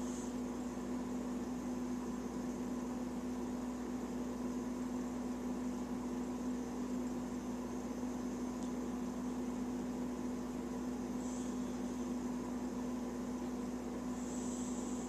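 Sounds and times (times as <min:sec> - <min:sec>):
even hiss: 0:00.0 - 0:15.0
steady low hum: 0:00.0 - 0:15.0.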